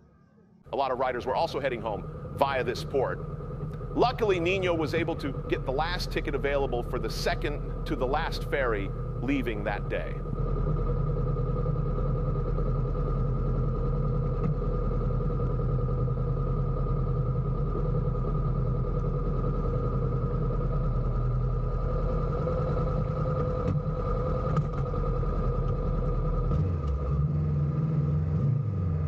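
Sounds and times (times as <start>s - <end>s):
engine running steadily: 0.7s - 29.0s.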